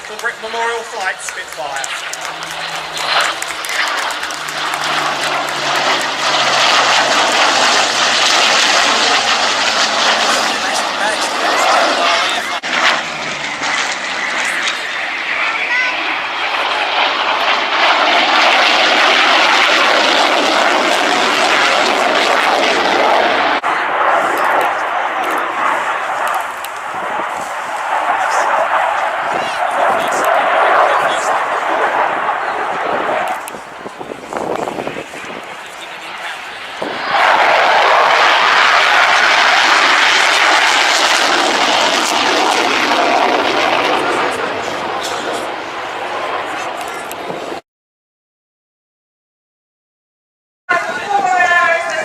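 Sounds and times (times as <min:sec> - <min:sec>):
aircraft flying past: 0:00.0 - 0:47.6.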